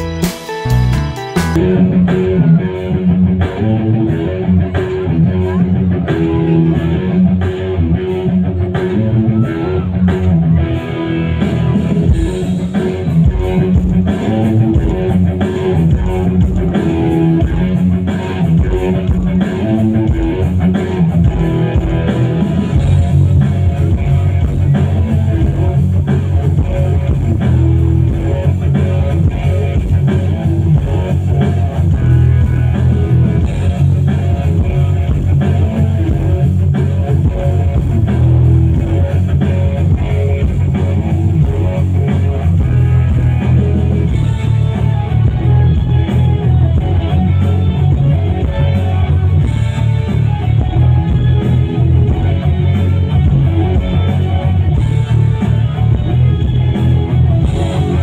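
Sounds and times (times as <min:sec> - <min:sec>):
loud guitar-led rock music: 0:00.0 - 0:58.0.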